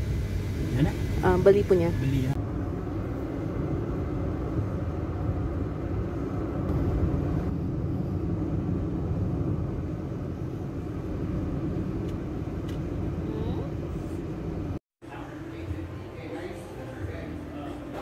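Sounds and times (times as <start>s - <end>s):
car interior rumble: 0.0s - 14.8s.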